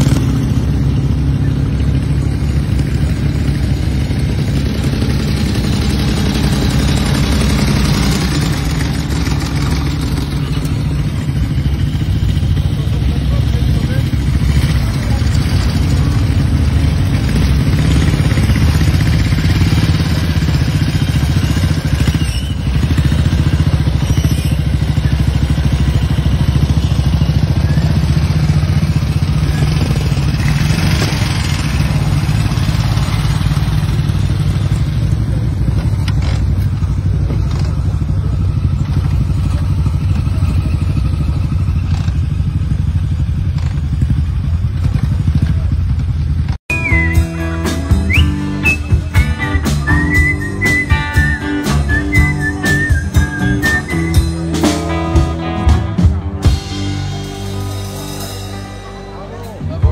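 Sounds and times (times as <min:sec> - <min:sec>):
motorcycle engines running: 0:00.0 - 0:59.9.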